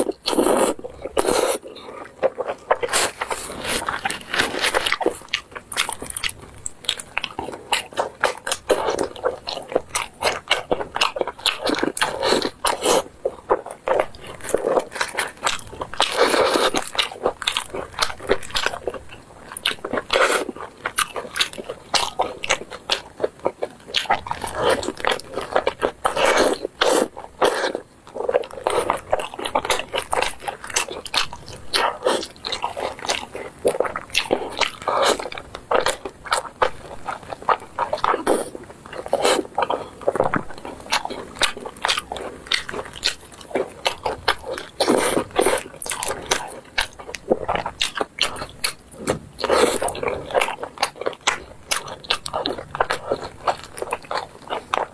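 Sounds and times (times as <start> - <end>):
biting and chewing: 0.0 - 54.9.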